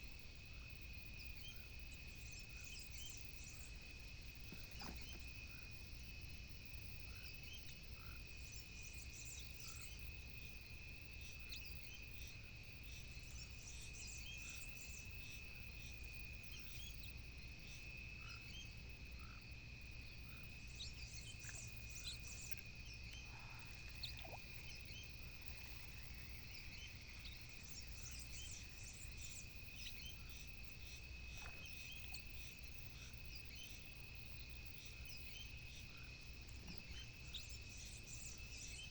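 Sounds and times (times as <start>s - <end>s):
insect trill: 0.0s - 38.9s.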